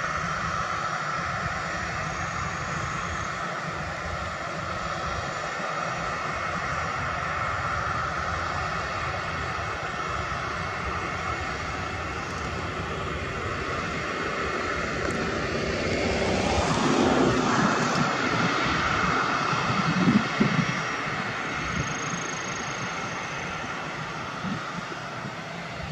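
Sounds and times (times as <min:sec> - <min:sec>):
jet engines whining and rumbling: 0:00.0 - 0:25.9.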